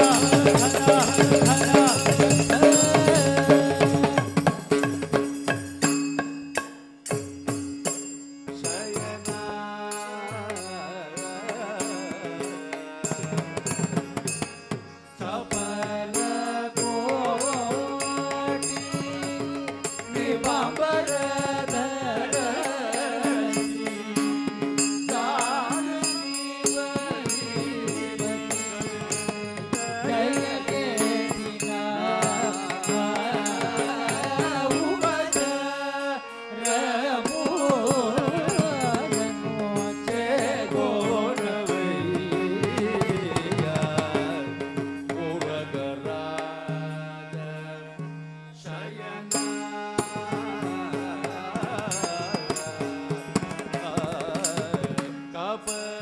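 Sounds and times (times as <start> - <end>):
devotional chanting-style singing: 0.0 - 5.0, 8.6 - 14.0, 15.1 - 56.0
rhythmic percussion: 0.0 - 56.0.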